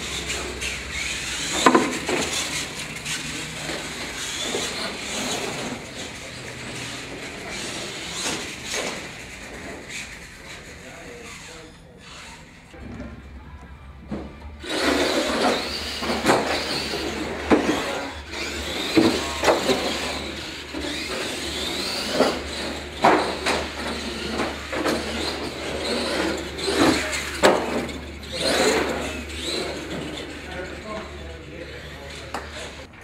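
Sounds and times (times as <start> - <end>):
trucks knocking and clattering: 0.0 - 10.6, 12.7 - 33.0
toy truck motors whining: 0.0 - 33.0.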